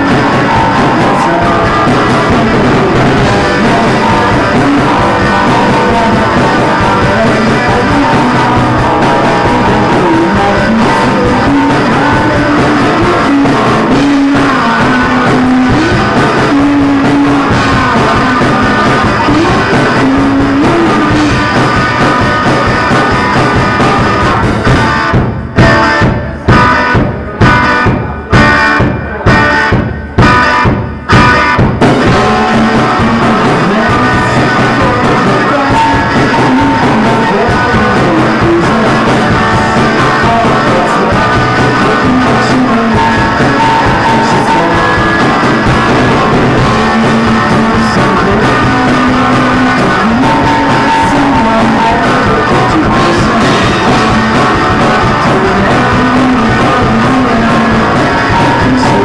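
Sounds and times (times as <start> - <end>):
band unison hits: 0.0 - 59.0
rock band playing: 0.0 - 59.0.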